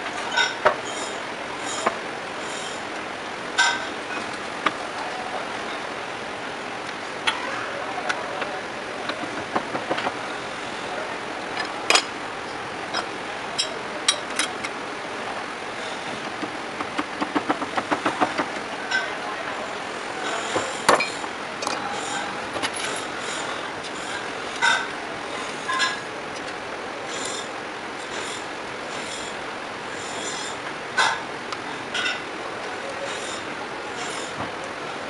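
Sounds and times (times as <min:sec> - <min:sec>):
mechanical workshop noise: 0:00.0 - 0:35.0.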